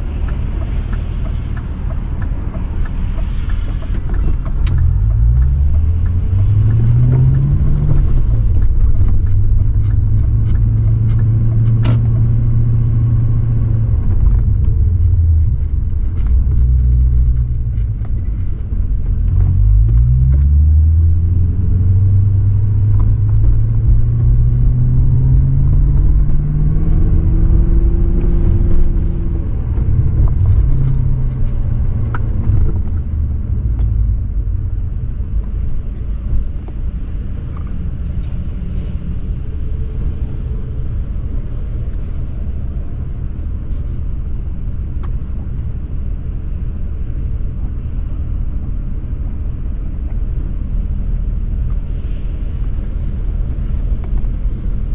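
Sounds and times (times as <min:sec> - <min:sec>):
car exhaust revving while driving: 0:00.0 - 0:54.9.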